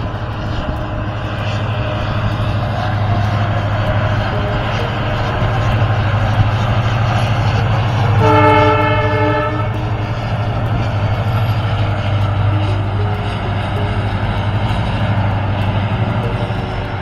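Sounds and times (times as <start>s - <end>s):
diesel locomotive running: 0.0s - 17.0s
train horn: 0.0s - 17.0s.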